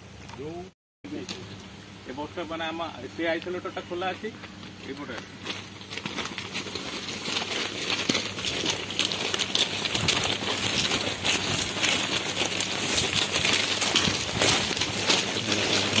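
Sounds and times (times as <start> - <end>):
footsteps crunching on gravel: 3.2 - 16.0.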